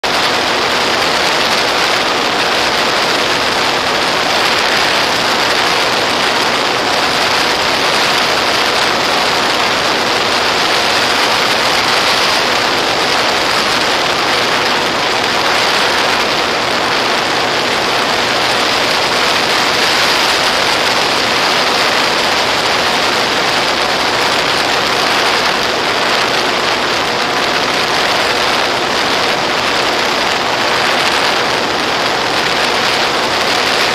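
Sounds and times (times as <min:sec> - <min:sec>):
electric motor and propeller hum: 0:00.0 - 0:33.9.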